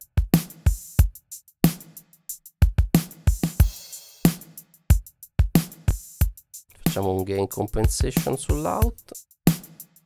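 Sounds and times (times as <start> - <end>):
drum kit groove: 0.0 - 10.0.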